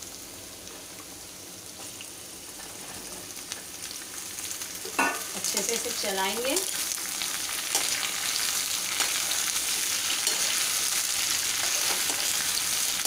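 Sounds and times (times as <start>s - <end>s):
pumpkin sizzling in oil: 0.0s - 13.0s.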